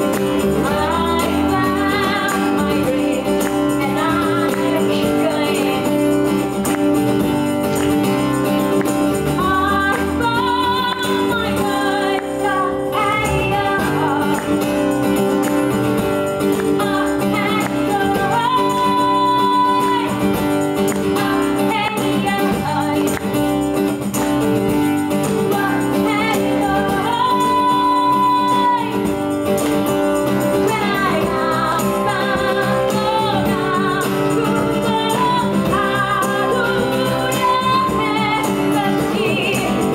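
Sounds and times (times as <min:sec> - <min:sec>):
woman singing: 0:00.0 - 0:06.5, 0:09.3 - 0:14.9, 0:16.6 - 0:23.4, 0:25.4 - 0:29.2, 0:30.5 - 0:39.9
acoustic guitar: 0:00.0 - 0:39.9
bass guitar: 0:00.0 - 0:39.9
tambourine shaking: 0:00.0 - 0:39.9.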